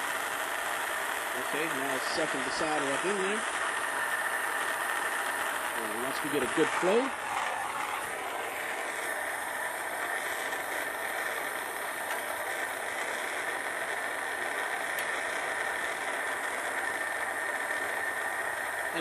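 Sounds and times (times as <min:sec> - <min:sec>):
gas torch hissing: 0:00.0 - 0:19.0.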